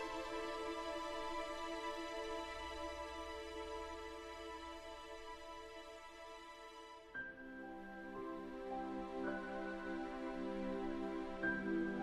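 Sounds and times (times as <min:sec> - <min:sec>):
soft slow background music: 0:00.0 - 0:12.0.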